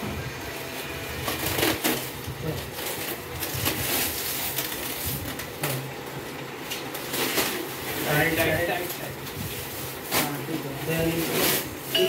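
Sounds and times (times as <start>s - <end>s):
plastic stretch film crackling: 1.2s - 12.0s.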